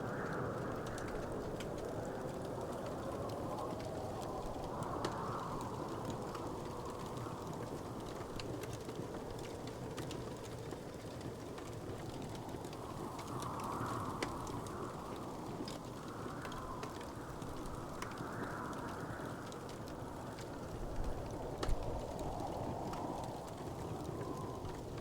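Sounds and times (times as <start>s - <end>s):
wood fire crackling: 0.0s - 25.0s
fire popping: 0.1s - 25.0s.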